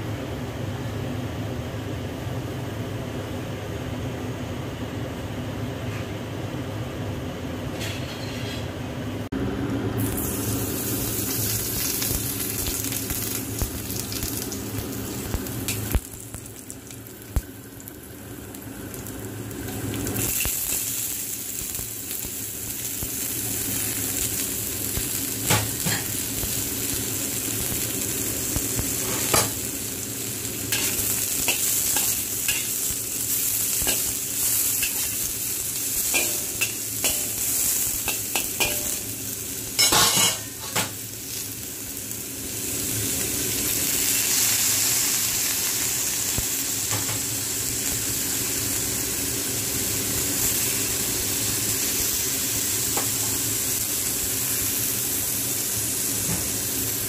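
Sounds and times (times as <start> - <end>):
vegetables sizzling in hot oil: 10.0 - 57.0.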